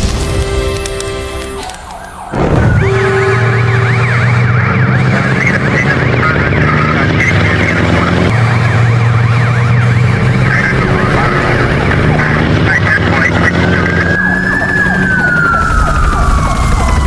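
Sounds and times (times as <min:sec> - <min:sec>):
emergency vehicle sirens yelping: 0:00.7 - 0:17.0.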